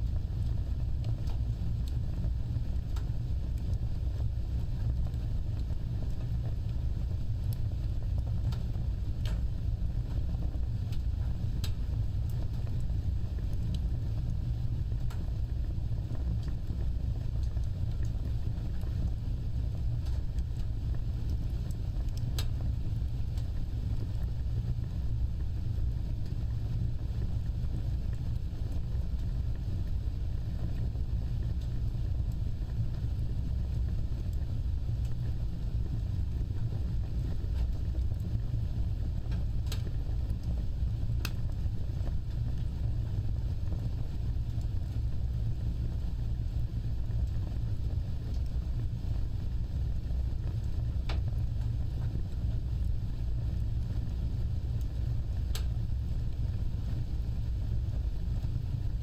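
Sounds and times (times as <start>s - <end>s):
fire crackles: 0.0s - 59.0s
wood fire roaring: 0.0s - 59.0s.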